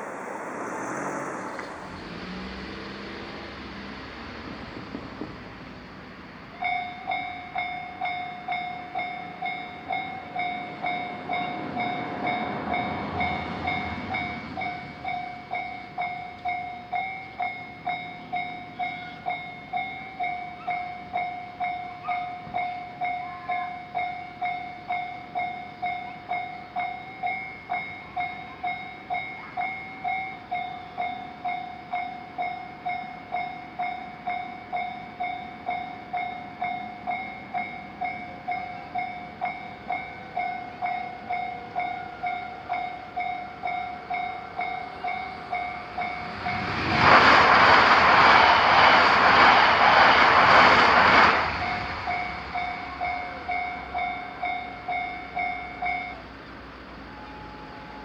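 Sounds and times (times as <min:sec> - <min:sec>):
train rumbling past: 0:00.0 - 0:58.0
railroad crossing bell ringing: 0:06.5 - 0:47.0, 0:51.5 - 0:58.0.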